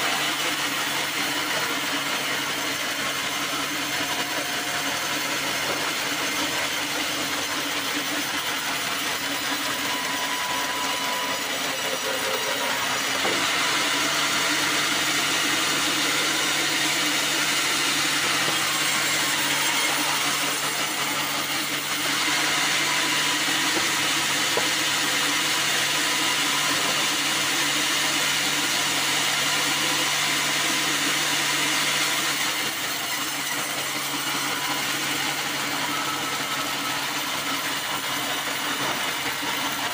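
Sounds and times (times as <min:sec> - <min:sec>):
band saw cutting log: 0:00.0 - 0:39.9
sawmill drive hum: 0:00.0 - 0:39.9.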